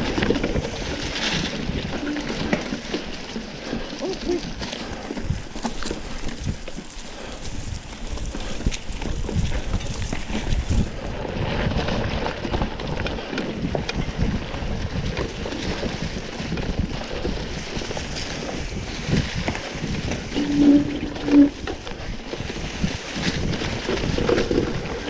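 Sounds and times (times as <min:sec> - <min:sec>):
steady rumble: 0:00.0 - 0:25.0
wind buffeting microphone: 0:00.0 - 0:25.0.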